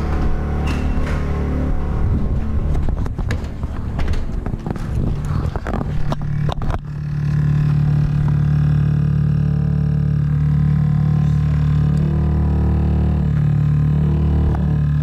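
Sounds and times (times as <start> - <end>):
water pipes droning hum: 0.0 - 15.0.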